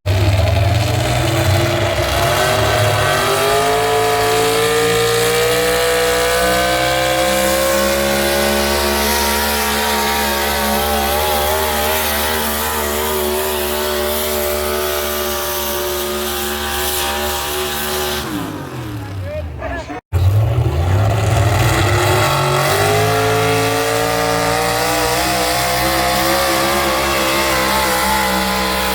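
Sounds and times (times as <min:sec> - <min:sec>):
tractor engine under load: 0:00.0 - 0:28.9.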